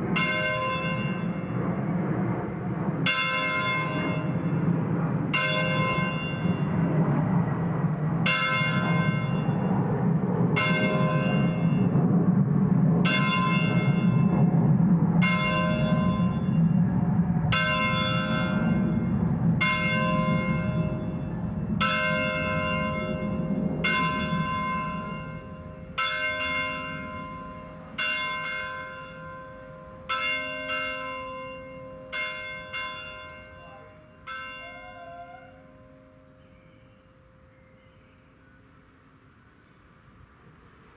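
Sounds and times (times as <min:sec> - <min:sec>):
church bell ringing: 0:00.0 - 0:12.0, 0:13.0 - 0:14.6, 0:15.2 - 0:37.6.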